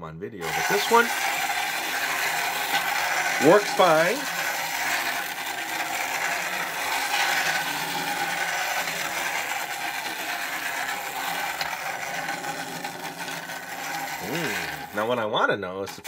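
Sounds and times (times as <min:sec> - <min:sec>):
toy train motor whirring: 0:00.4 - 0:16.0.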